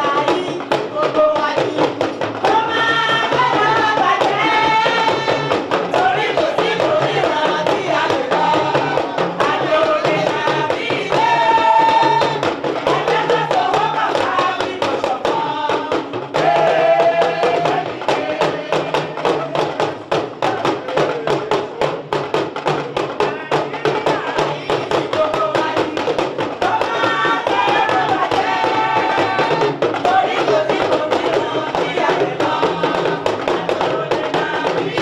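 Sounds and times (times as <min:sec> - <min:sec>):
music with percussion beat: 0:00.0 - 0:35.0.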